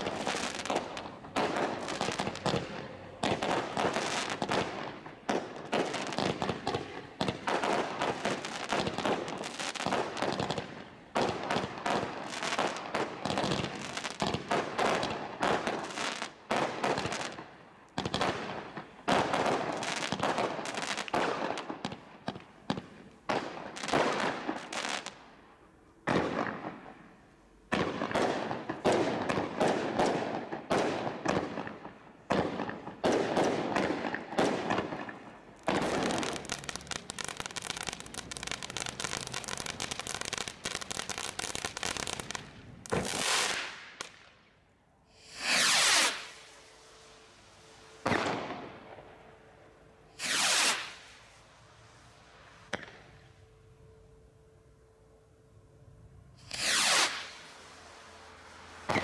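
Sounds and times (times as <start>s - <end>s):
firework bangs and crackles: 0.0s - 25.4s, 26.0s - 44.4s, 45.1s - 49.1s, 50.1s - 53.2s, 56.4s - 59.0s.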